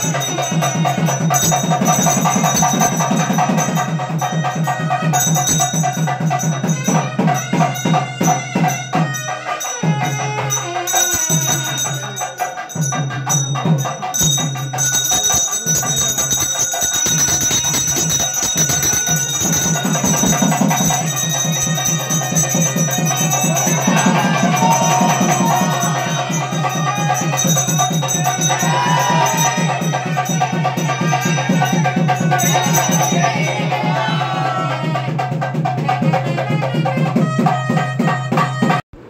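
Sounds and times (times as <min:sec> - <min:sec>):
bells ringing: 0:00.0 - 0:35.0
fast steady drumming: 0:00.0 - 0:39.0.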